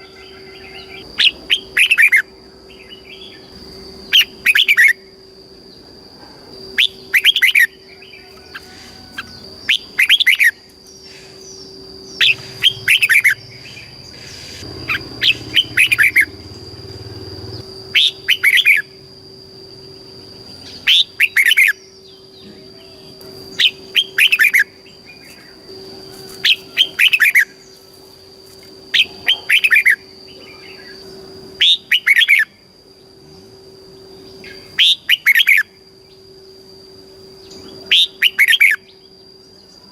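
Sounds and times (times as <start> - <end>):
bird singing whistled notes: 0.0 - 5.1, 6.7 - 19.0, 19.8 - 27.9, 28.9 - 32.7, 34.2 - 36.3, 37.4 - 39.8
high-pitched whine: 0.0 - 39.9.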